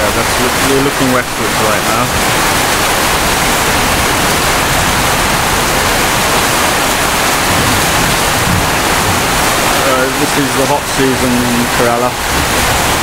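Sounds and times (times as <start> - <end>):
heavy rain: 0.0 - 13.0
wind buffeting microphone: 0.0 - 13.0.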